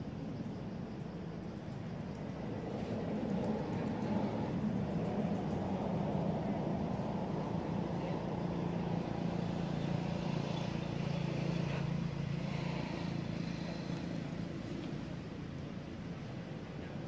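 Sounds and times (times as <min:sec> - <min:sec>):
engine droning steadily: 0:00.0 - 0:17.0.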